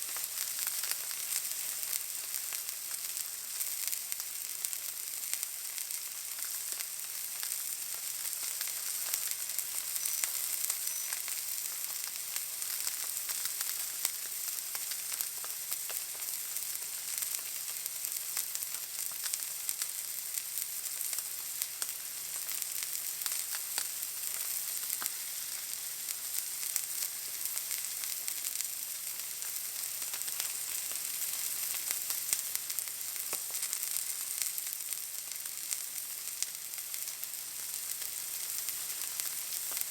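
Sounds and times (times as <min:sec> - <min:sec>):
crackles and pops: 0:00.0 - 0:39.9
steak sizzling in a pan: 0:00.0 - 0:39.9.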